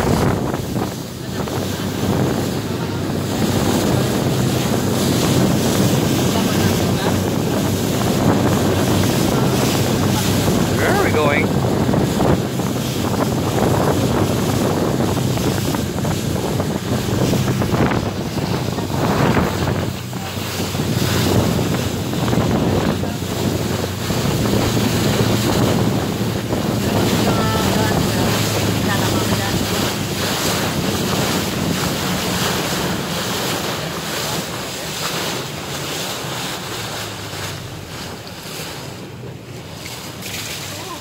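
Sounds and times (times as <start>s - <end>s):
boat engine drone: 0.0s - 41.0s
water rushing against hull: 0.0s - 41.0s
wind buffeting microphone: 0.0s - 41.0s.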